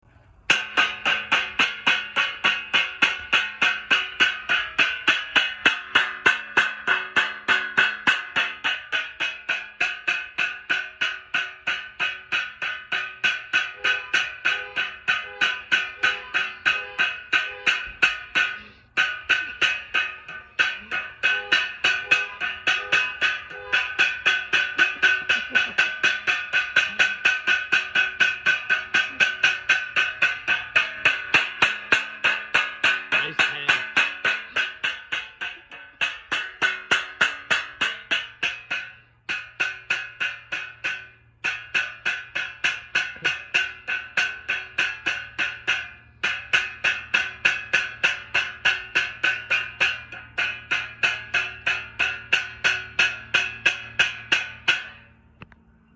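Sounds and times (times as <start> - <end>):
ringing percussion strikes: 0.5 - 55.2.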